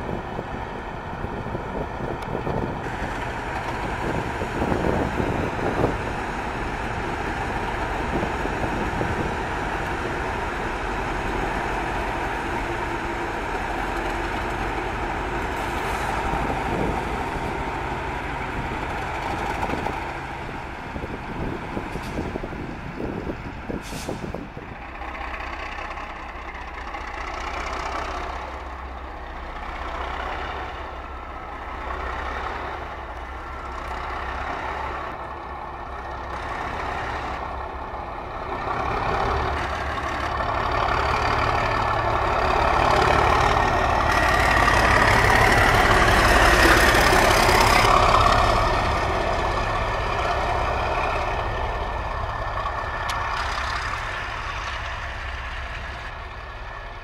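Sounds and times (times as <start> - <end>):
diesel locomotive engine drone: 0.0 - 57.0
rail clicks: 0.0 - 57.0
wheel-on-rail noise: 0.0 - 57.0.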